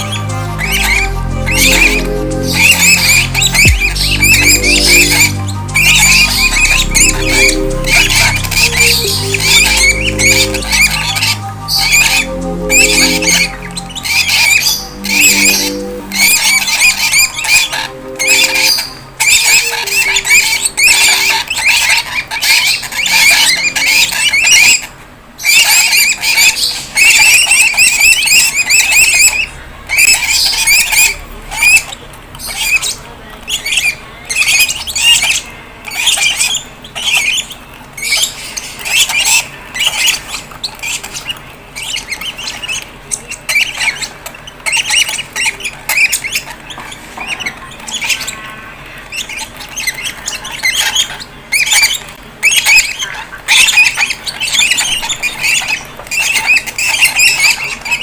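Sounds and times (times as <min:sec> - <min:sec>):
bird chicks squawking: 0:00.0 - 0:58.0.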